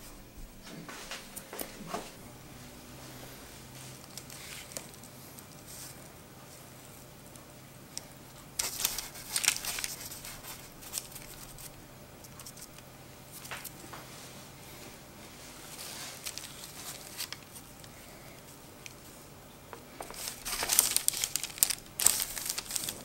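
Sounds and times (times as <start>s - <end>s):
baking paper rustling: 0.0s - 7.4s, 8.0s - 19.2s, 19.8s - 23.0s.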